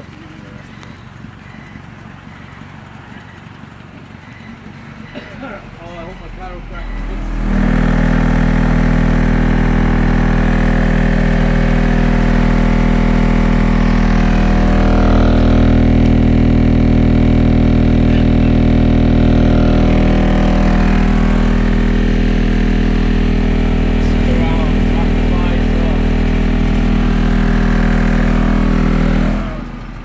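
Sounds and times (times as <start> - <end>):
loud subwoofer bass: 5.5 - 30.0.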